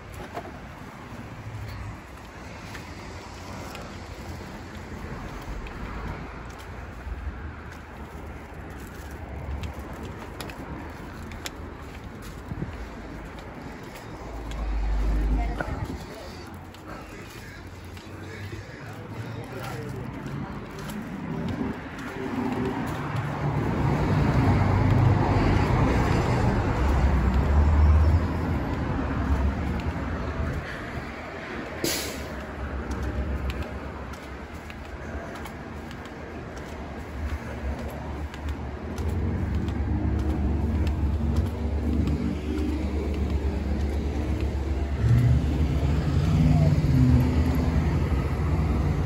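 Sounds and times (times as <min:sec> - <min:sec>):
car engines running: 0:00.0 - 0:49.0
vehicle passing: 0:00.0 - 0:49.0.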